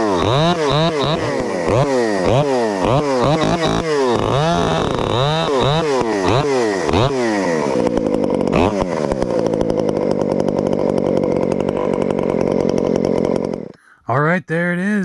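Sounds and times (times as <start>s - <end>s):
chainsaw revving: 0.0s - 13.8s.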